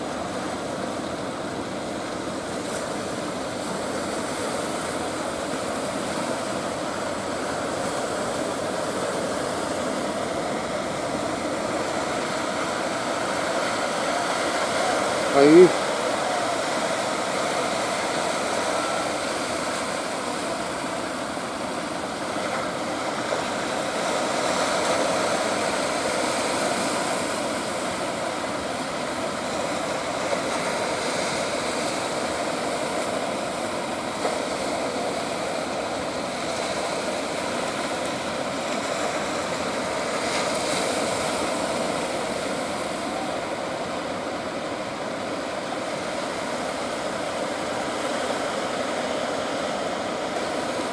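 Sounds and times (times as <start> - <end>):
surf and churning water: 0.0 - 50.9.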